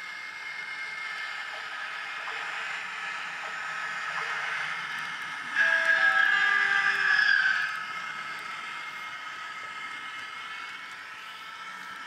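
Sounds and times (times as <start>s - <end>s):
model locomotive engine drone: 0.0s - 12.0s.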